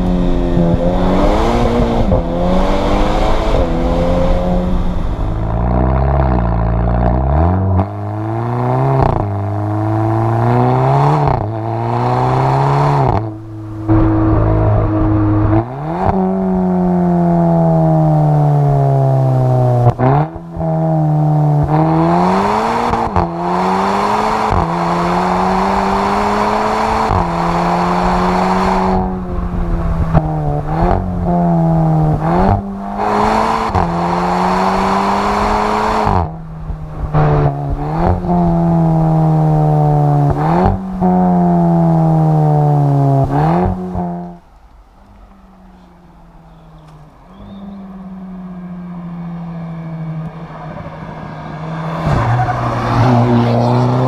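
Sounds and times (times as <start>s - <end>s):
car exhaust while driving: 0.0s - 54.0s.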